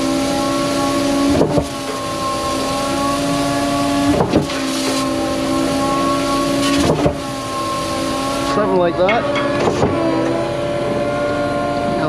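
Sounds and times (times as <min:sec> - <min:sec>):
hose spraying water: 0:00.0 - 0:10.5
pump cylinder changeover: 0:00.0 - 0:10.6
concrete pump truck running: 0:00.0 - 0:12.0.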